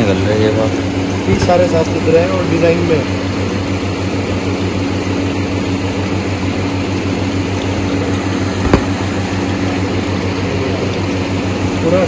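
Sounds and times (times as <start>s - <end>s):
fan motor humming: 0.0s - 12.0s.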